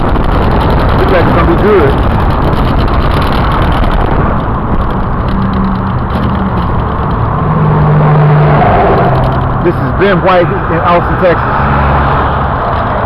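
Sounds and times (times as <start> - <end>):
road traffic rumble: 0.0 - 13.0
wind buffeting microphone: 0.0 - 13.0.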